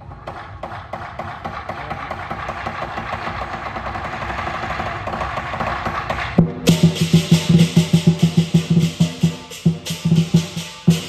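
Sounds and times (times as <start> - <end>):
drum and cymbals roll: 0.0 - 11.0.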